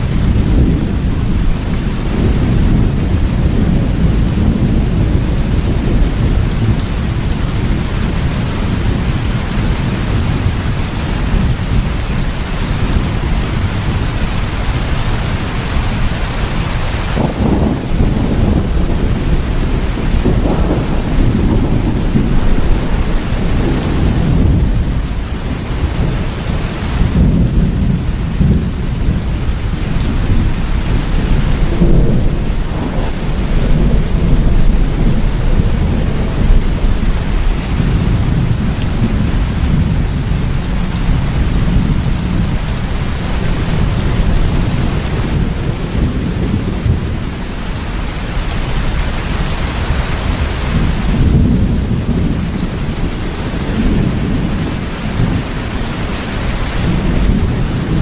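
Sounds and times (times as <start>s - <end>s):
rolling thunder: 0.0s - 58.0s
steady rain: 0.0s - 58.0s.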